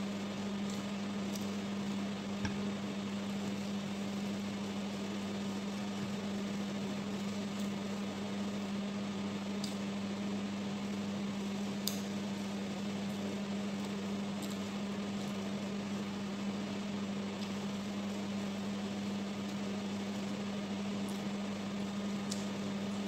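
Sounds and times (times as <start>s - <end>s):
appliance electrical hum: 0.0s - 23.0s.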